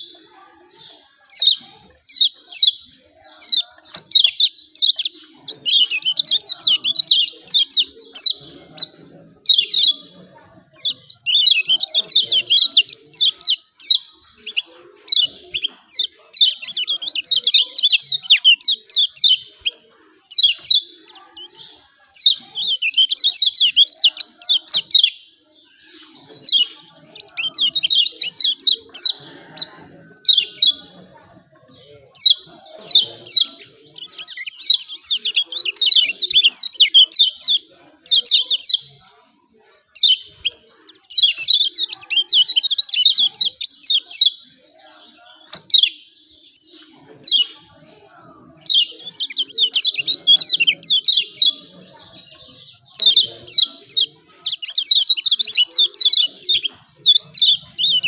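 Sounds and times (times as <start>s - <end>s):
bird chirping rapidly: 1.3s - 39.0s, 39.9s - 44.6s, 45.4s - 47.6s, 48.6s - 58.0s.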